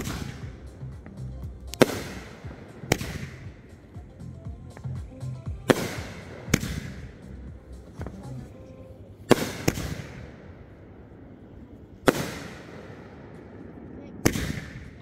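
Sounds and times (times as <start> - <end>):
firework shells bursting: 0.0 - 8.6, 9.2 - 15.0.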